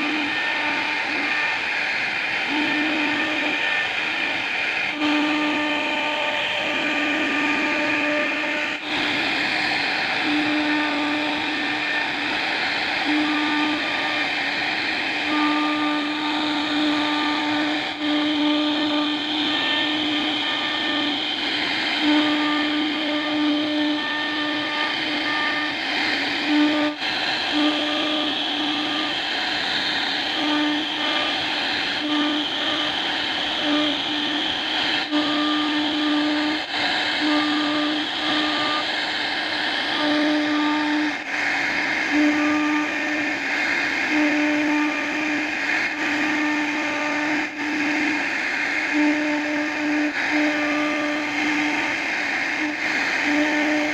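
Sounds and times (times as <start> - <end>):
motor whine: 0.0 - 53.9
router cutting hiss: 0.0 - 53.9.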